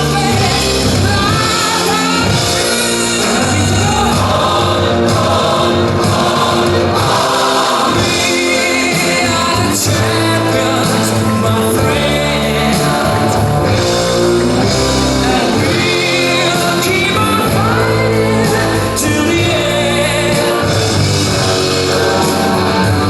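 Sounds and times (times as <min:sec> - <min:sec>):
loud music with singing: 0:00.0 - 0:23.0.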